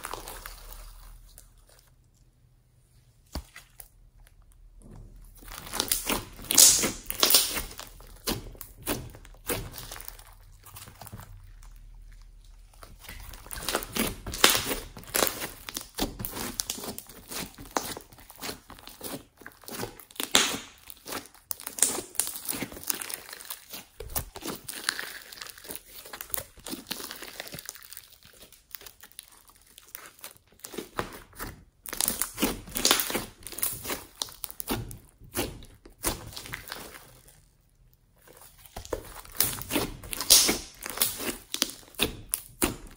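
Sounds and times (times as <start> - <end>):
slime crackling and popping: 0.0 - 2.2, 3.4 - 42.9.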